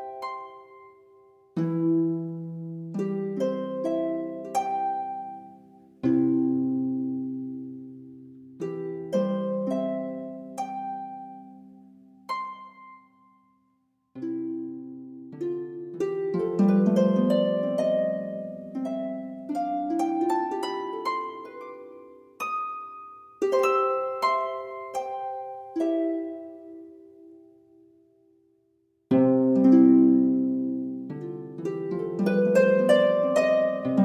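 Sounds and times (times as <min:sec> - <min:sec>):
plucked harp-like relaxation music: 0:00.0 - 0:34.0.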